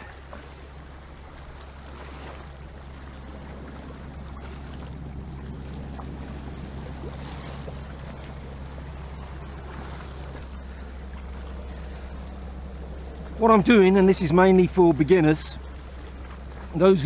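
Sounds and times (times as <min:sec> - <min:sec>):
low wind rumble on microphone: 0:00.0 - 0:17.0
sea waves lapping against rocks: 0:00.0 - 0:17.0.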